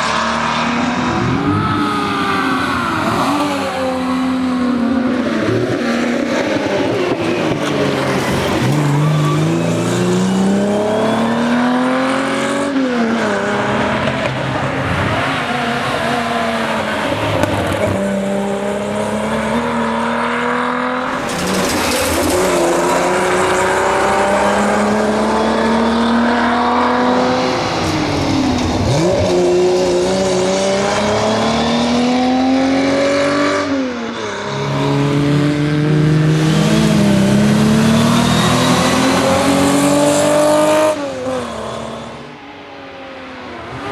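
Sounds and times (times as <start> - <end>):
car engine accelerating hard: 0.0 - 42.3.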